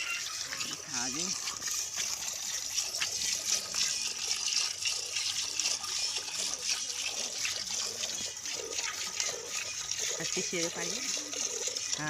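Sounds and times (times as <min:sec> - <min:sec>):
milk squirting into a pail: 0:00.0 - 0:12.0.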